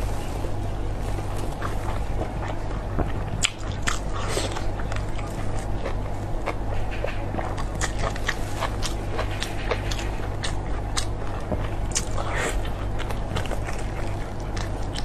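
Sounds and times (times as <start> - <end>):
steady low hum: 0.0 - 15.0
wet chewing: 0.0 - 15.0
crackly biting clicks: 1.6 - 15.0.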